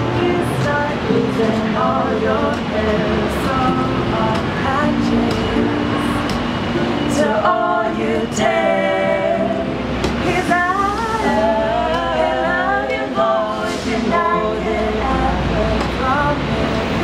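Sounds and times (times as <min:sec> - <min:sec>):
people singing together: 0:00.0 - 0:17.0
strummed acoustic guitar: 0:00.0 - 0:17.0.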